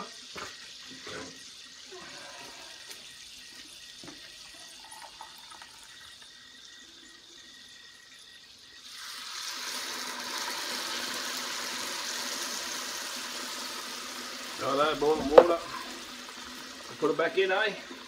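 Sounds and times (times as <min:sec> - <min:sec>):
water hissing in hot pan: 0:00.0 - 0:18.0.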